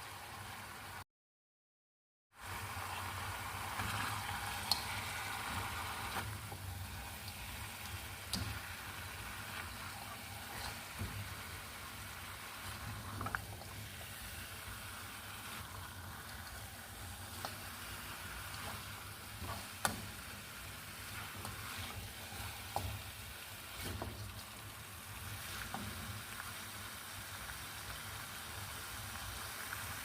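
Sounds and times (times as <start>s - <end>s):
food sizzling in a pan: 0.0s - 1.0s, 2.4s - 30.0s.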